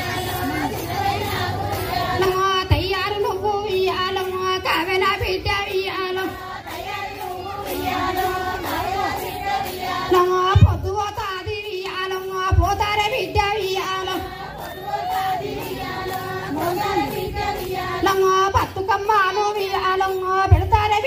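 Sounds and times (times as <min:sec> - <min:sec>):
women and girls singing folk song: 0:00.0 - 0:21.0.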